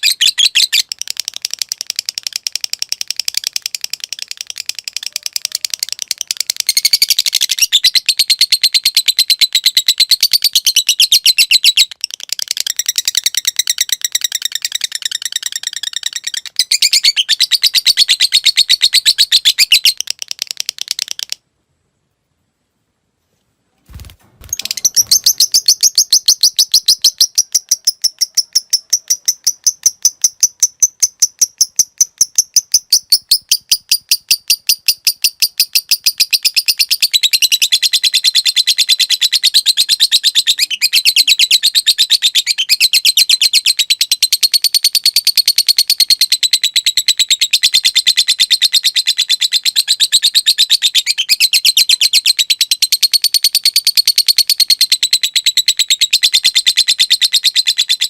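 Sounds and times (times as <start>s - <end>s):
lovebird chattering: 0.0s - 21.4s, 24.4s - 58.0s.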